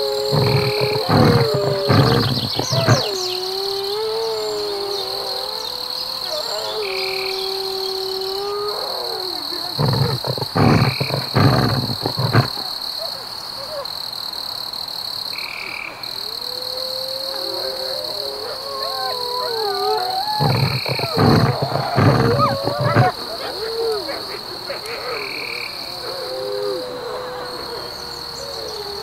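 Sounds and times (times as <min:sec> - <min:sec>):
loud rough wolf calls: 0:00.0 - 0:12.9, 0:16.2 - 0:29.0
wolves howling: 0:00.0 - 0:13.9, 0:16.2 - 0:29.0
high insect drone: 0:00.0 - 0:29.0.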